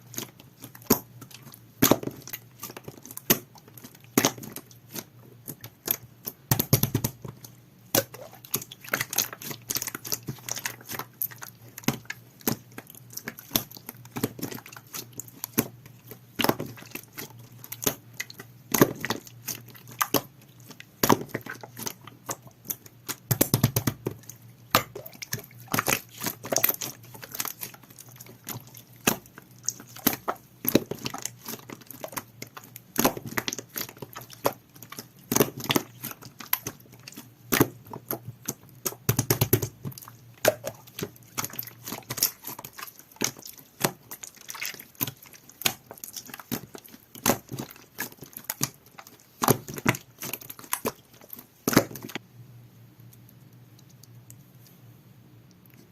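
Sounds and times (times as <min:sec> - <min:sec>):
slime squished by hand: 0:00.0 - 0:52.2.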